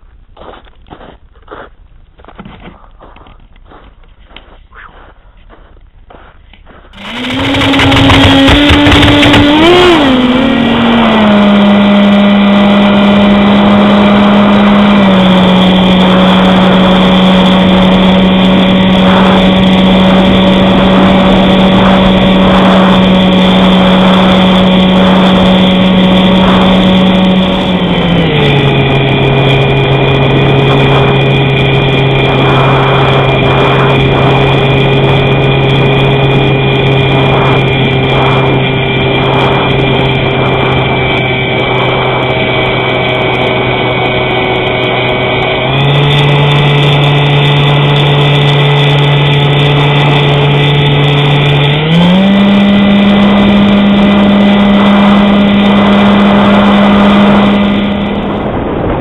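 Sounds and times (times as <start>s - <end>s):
electric motor and propeller hum: 2.1s - 59.0s.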